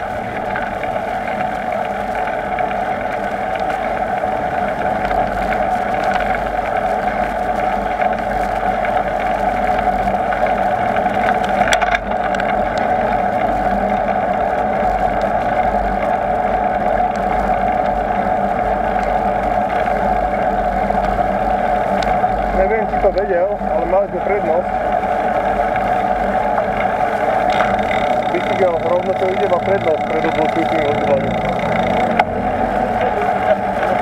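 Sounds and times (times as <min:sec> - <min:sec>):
bicycle rattle: 0:00.0 - 0:34.0
bicycle rolling on pavement: 0:00.0 - 0:34.0
wind: 0:00.0 - 0:34.0.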